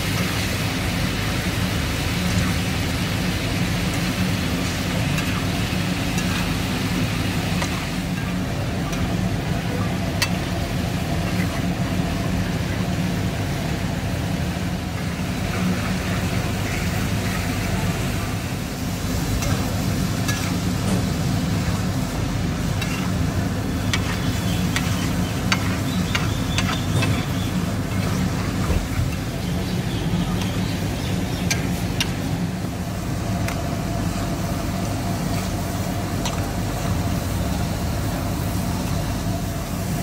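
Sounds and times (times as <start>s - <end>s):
gravy sizzling: 0.0s - 40.0s
steady low hum: 0.0s - 40.0s.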